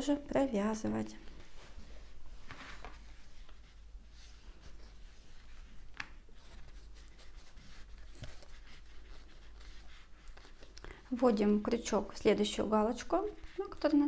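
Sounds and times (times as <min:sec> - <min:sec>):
yarn rustling with crochet hook: 0:00.9 - 0:14.0.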